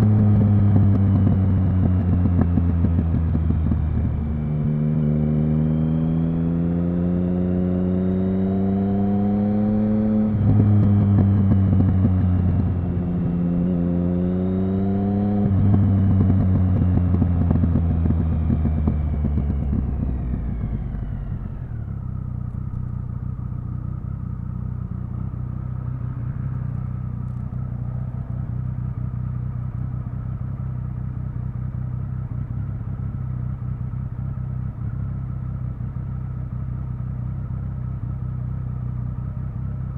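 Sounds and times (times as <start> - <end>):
motorcycle engine idling: 0.0 - 4.8, 10.5 - 13.9, 15.5 - 39.9
motorcycle engine accelerating: 0.0 - 39.9.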